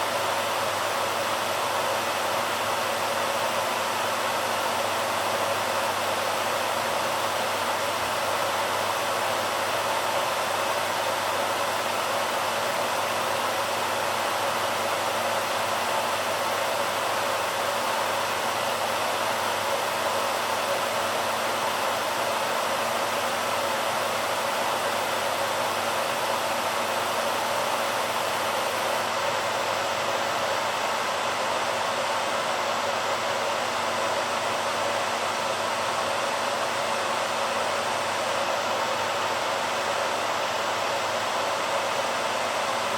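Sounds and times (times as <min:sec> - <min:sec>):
hairdryer running: 0:00.0 - 0:42.9.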